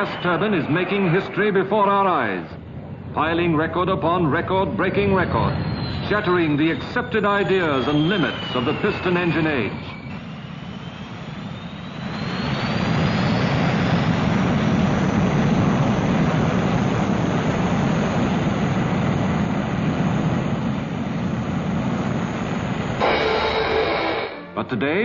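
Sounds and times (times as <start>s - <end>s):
jet engine rushing and whining: 0.0s - 24.9s.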